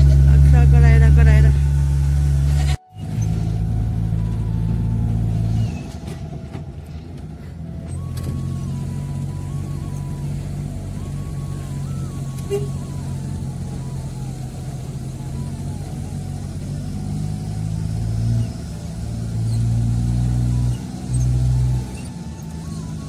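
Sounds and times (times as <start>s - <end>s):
car engine running from inside: 0.0s - 23.0s.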